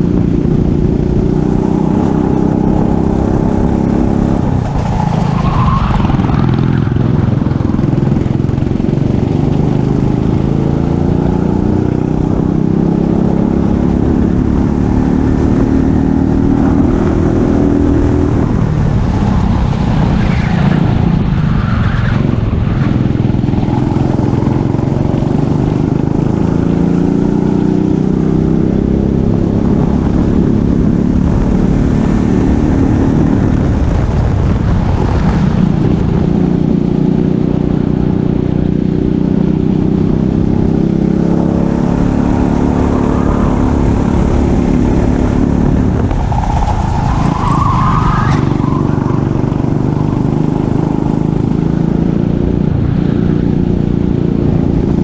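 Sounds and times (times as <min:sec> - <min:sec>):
kart engine revving: 0:00.0 - 0:33.9, 0:35.5 - 0:52.8.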